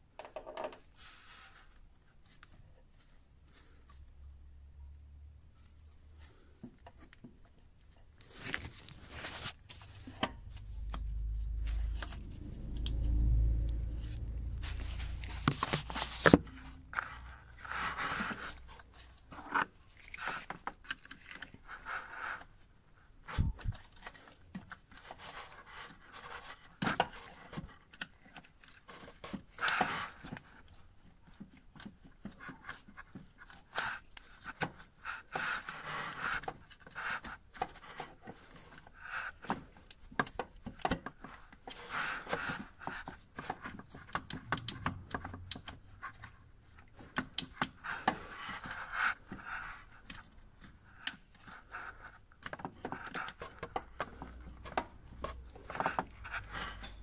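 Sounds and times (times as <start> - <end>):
rubber hose scraping and rubbing: 0.8 - 4.2, 5.5 - 57.0.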